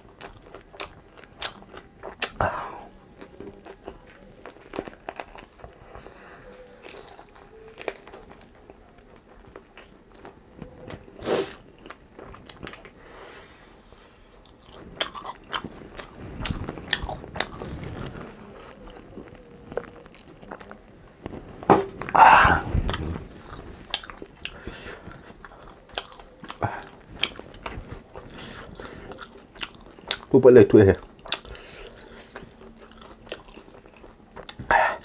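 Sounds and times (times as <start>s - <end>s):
biting and chewing: 0.0s - 13.0s, 14.4s - 35.0s.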